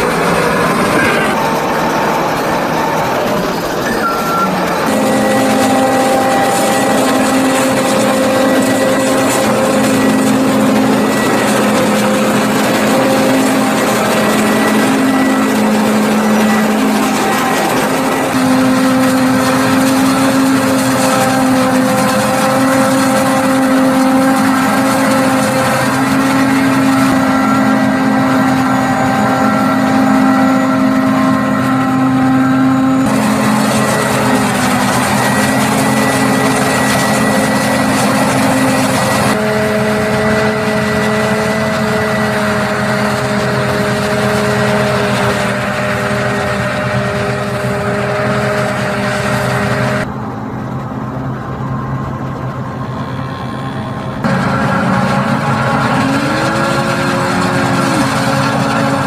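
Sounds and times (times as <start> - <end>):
forage harvester drone: 0.0 - 59.0
quieter engine: 0.0 - 59.0.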